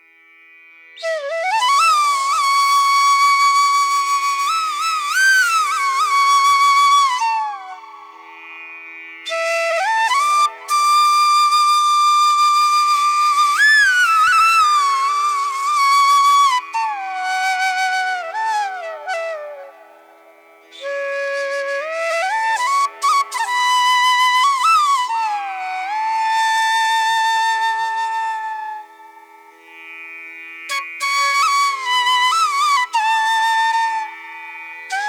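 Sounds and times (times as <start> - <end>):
solo flute melody: 0.9 - 8.6, 9.2 - 29.7, 30.7 - 35.0.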